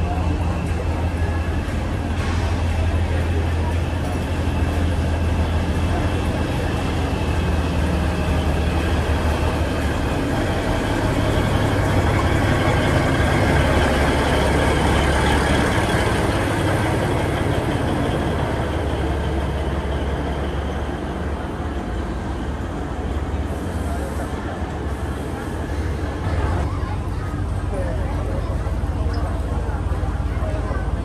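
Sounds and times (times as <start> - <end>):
train running: 0.0 - 31.0.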